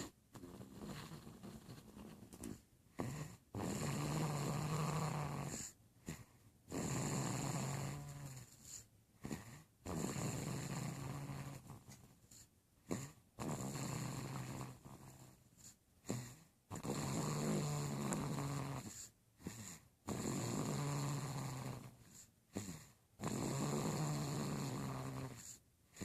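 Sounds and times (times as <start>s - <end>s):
quiet breaths: 0.0s - 26.0s
long low snores: 2.9s - 26.0s.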